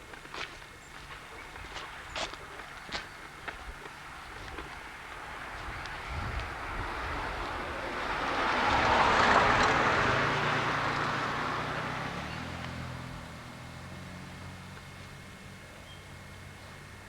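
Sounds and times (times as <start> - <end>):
low engine hum: 0.0 - 17.0
motor vehicle passing by: 1.3 - 17.0.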